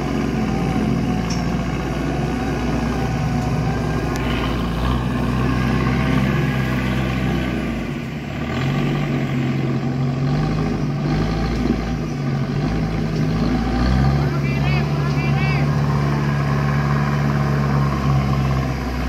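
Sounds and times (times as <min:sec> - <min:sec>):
off-road engine revving under load: 0:00.0 - 0:19.0.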